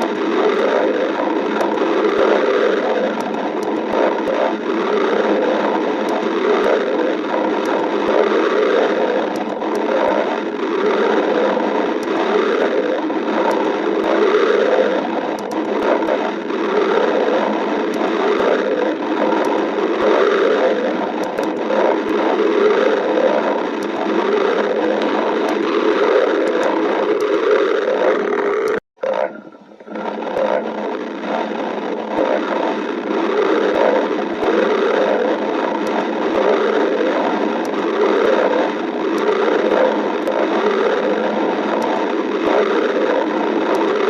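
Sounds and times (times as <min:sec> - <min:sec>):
stomach growling: 0:00.0 - 0:44.0.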